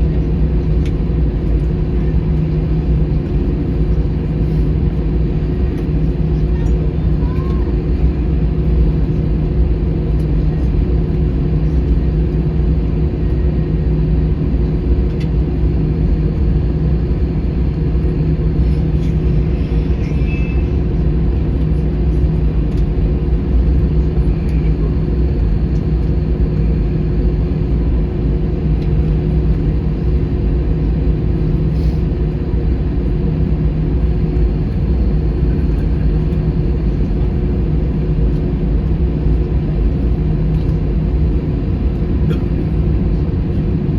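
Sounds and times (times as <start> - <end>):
jet engine low rumble: 0.0 - 43.9.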